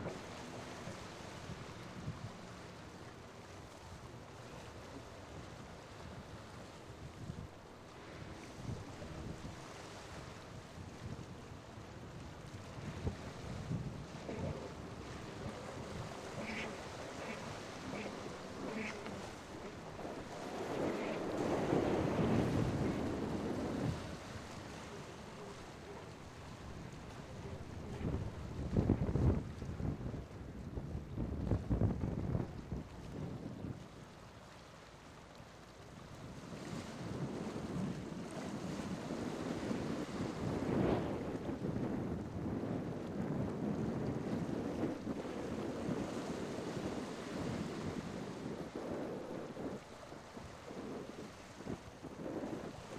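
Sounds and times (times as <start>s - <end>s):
waves washing: 0.0s - 30.0s, 33.8s - 52.9s
wind on microphone: 0.0s - 34.1s, 36.0s - 52.9s
surf and churning water: 0.0s - 52.9s.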